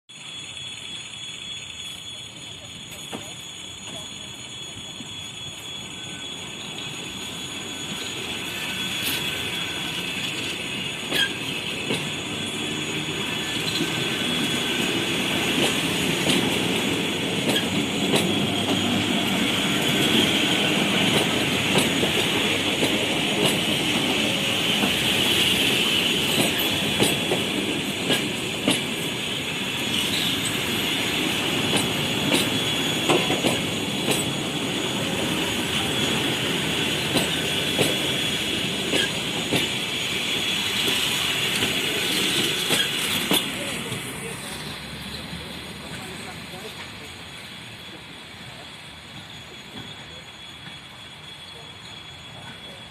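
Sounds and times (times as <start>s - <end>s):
high wheel squeal: 0.1s - 52.9s
train rumbling on rails: 0.2s - 52.9s.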